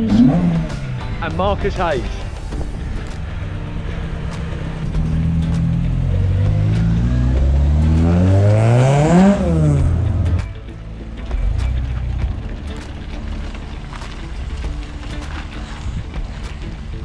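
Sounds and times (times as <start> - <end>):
car engine accelerating past: 2.0 - 17.0.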